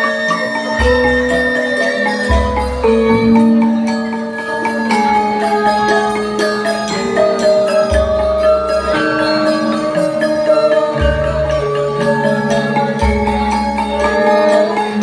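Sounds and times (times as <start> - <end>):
metallophones ringing melody: 0.0 - 15.0.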